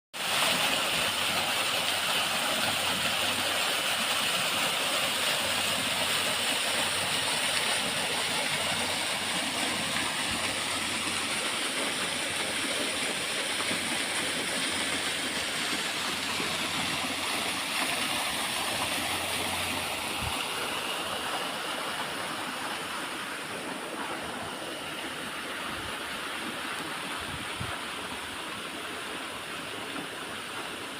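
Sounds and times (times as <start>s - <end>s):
waterfall rushing: 0.2s - 30.9s.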